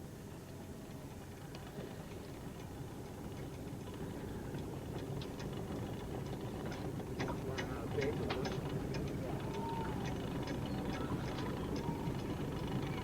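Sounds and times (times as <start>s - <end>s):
outboard motor rumbling: 0.2s - 13.0s.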